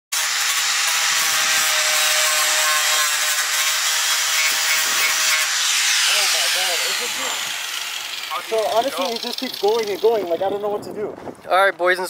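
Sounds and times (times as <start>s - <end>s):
electric grinder whining: 0.2s - 10.6s.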